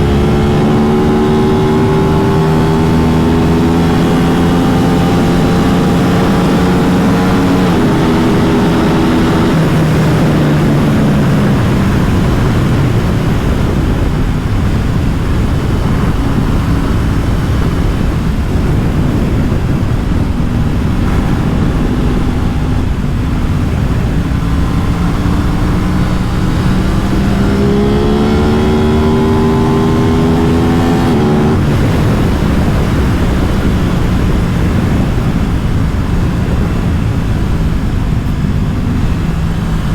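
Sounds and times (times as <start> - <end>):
motorcycle engine: 0.0 - 39.9
rush of wind noise: 0.0 - 39.9.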